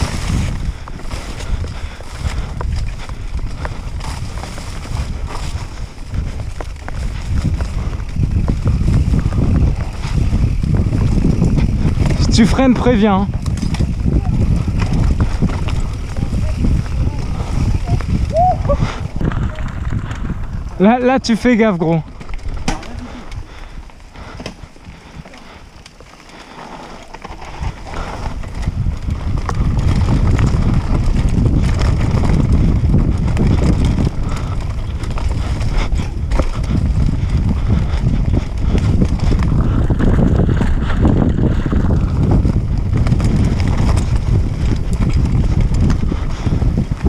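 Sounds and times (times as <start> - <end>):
mountain bike rumbling and rattling: 0.0 - 47.0
wind buffeting microphone: 0.0 - 47.0.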